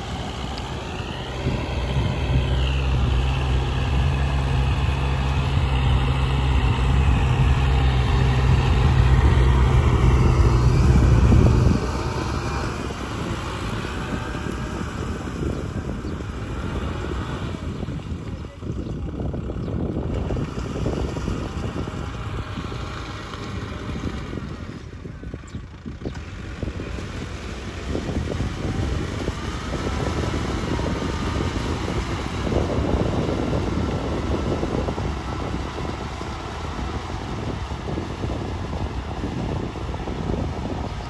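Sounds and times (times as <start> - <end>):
distant tractor diesel engine: 0.0 - 41.0.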